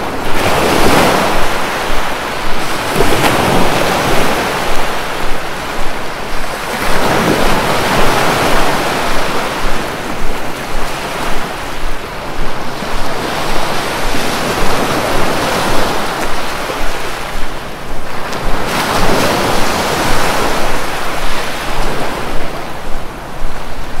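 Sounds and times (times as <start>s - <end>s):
sea waves breaking on beach: 0.0s - 24.0s.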